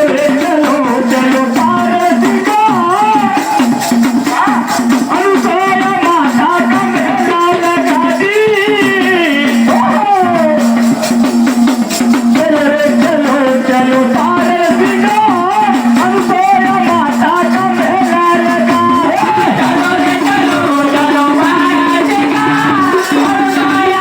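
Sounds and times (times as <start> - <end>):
percussion keeping a beat: 0.0 - 24.0
person singing devotional song: 0.0 - 24.0.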